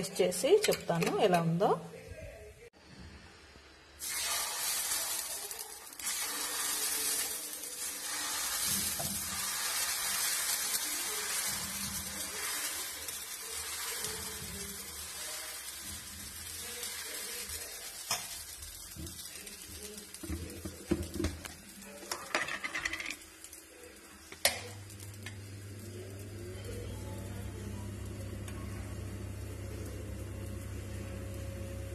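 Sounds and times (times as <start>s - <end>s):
batter sizzling on griddle: 4.0s - 31.9s.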